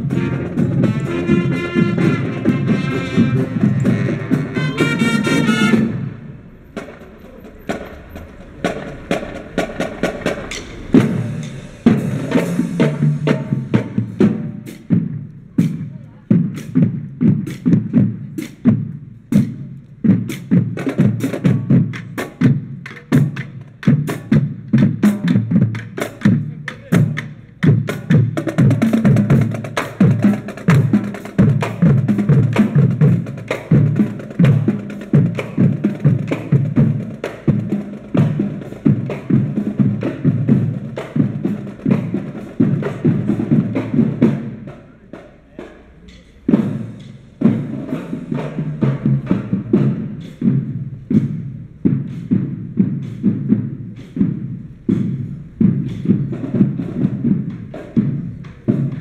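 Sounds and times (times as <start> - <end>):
marching band wind and brass tune: 0.0 - 59.0
marching snare and bass drums: 0.0 - 59.0.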